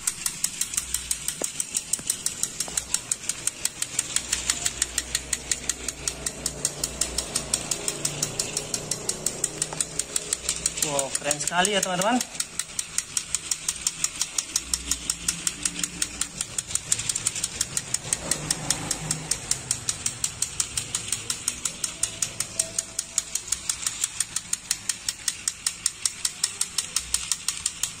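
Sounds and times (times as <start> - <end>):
toy train rapid clicking: 0.0 - 28.0.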